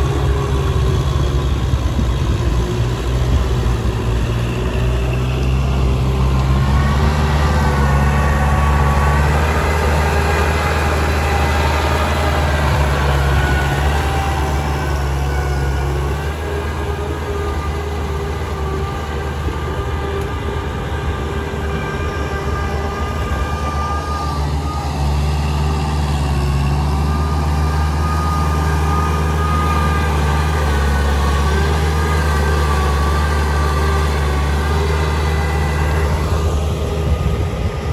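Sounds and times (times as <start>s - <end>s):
high engine whine: 0.0s - 37.9s
tractor diesel engines droning: 0.0s - 37.9s.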